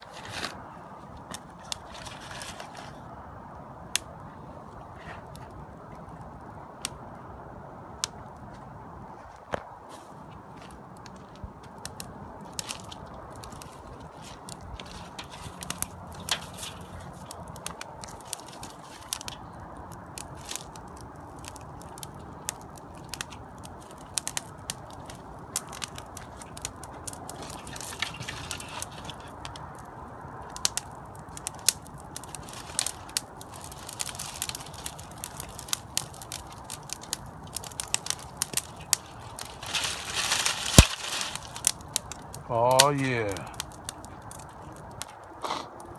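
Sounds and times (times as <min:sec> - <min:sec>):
bonfire crackling and popping: 0:00.0 - 0:09.2, 0:10.0 - 0:45.9.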